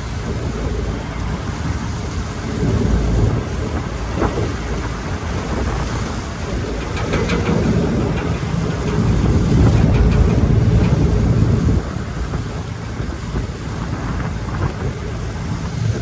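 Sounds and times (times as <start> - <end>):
ferry engines low rumble: 0.0 - 16.0
sea water washing past: 0.0 - 16.0
wind on microphone: 0.0 - 16.0.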